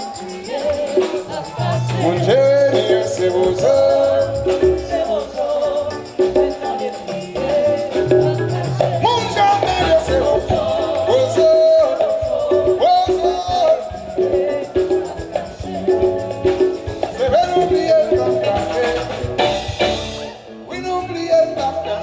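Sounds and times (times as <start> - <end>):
bass: 0.0 - 22.0
drums: 0.0 - 22.0
person singing: 0.0 - 22.0
shaken percussion: 0.0 - 22.0.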